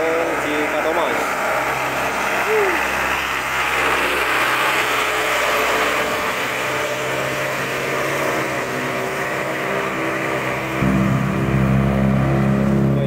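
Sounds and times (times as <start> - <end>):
bus engine under load: 0.0 - 13.0.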